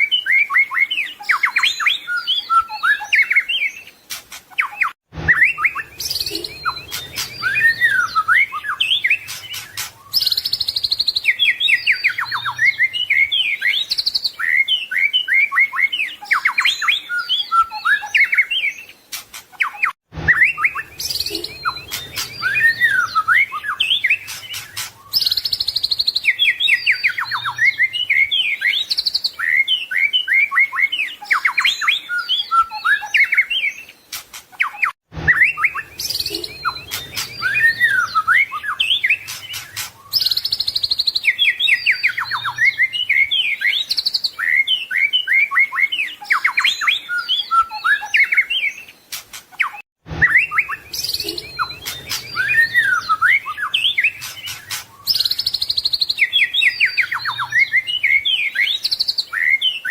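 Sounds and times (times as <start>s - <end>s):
songbird singing varied song: 0.0s - 59.9s.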